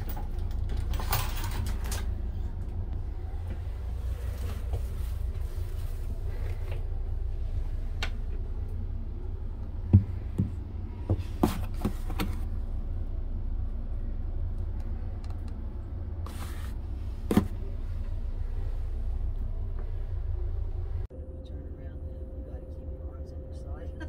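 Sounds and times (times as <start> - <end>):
train car rumbling in motion: 0.0 - 24.0.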